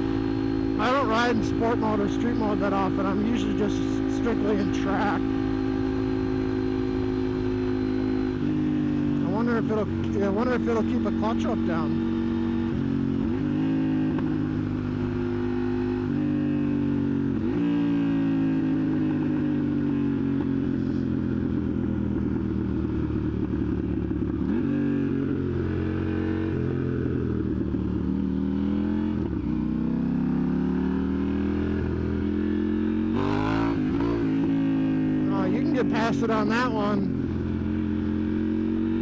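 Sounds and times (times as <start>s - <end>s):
motorcycle engine revving through gears: 0.0s - 39.0s.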